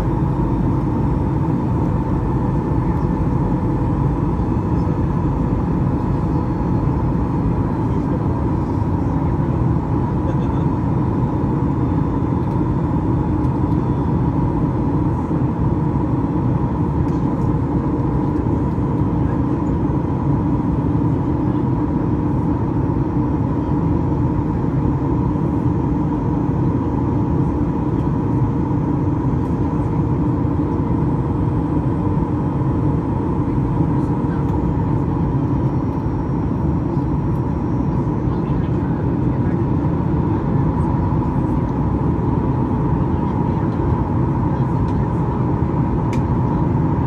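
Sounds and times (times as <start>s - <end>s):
jet engine drone: 0.0s - 47.0s
mid-pitched hum: 0.0s - 47.0s.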